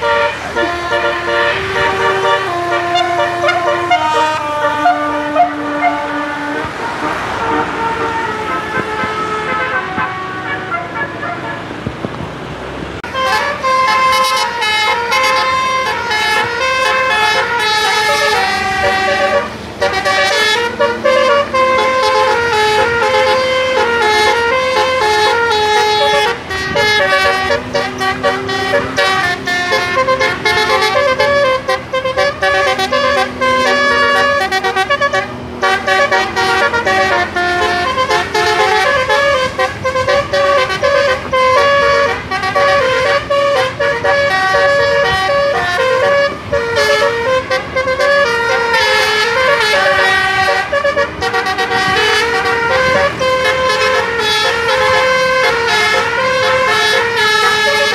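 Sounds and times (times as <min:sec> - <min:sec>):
bus air horns playing tune: 0:00.0 - 0:11.9, 0:13.0 - 0:57.9
road noise: 0:00.0 - 0:57.9.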